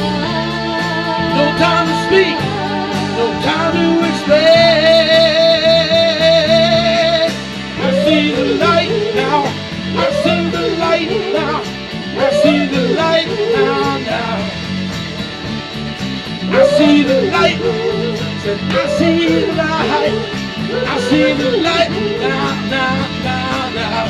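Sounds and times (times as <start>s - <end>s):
live band playing soul-rock: 0.0s - 24.0s
wavering lead melody: 0.0s - 24.0s.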